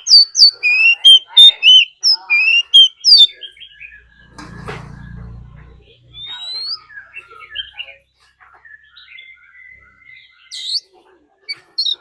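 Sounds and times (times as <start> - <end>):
magpie-robin singing: 0.0 - 4.4, 6.1 - 12.0.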